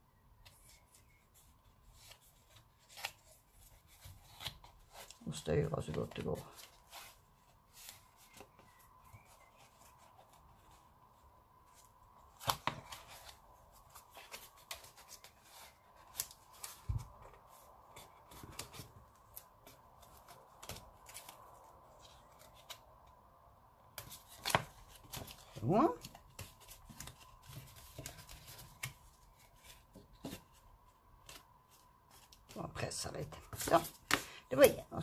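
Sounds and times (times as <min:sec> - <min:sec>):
paper rustling: 0:00.4 - 0:22.9, 0:23.9 - 0:34.8.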